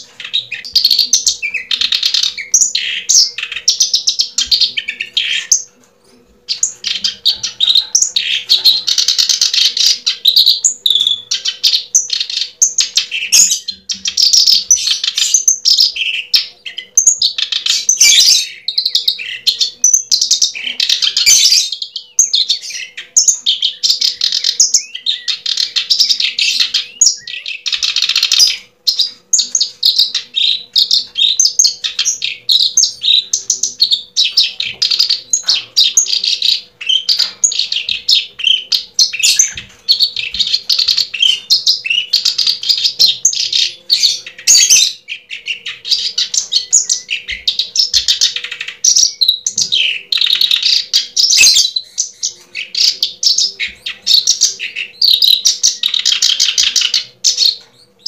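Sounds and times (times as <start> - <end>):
songbird chirping and twittering: 0.0 - 58.0.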